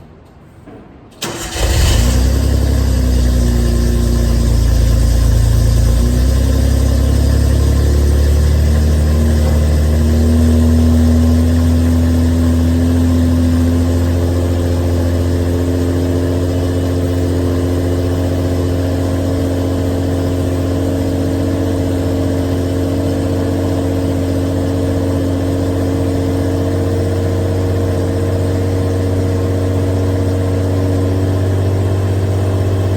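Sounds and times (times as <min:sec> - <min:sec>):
car engine idling: 0:01.2 - 0:32.9.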